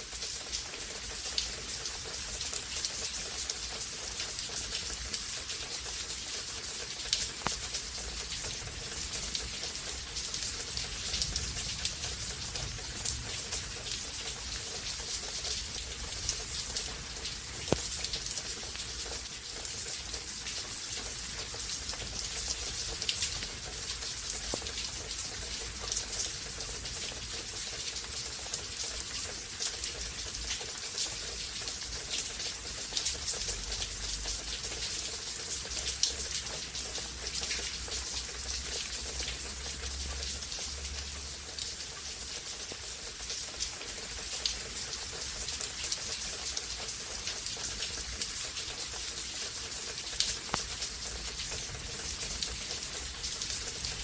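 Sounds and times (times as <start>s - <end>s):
raindrops splashing on surfaces: 0.0s - 54.0s
steady rainfall: 0.0s - 54.0s.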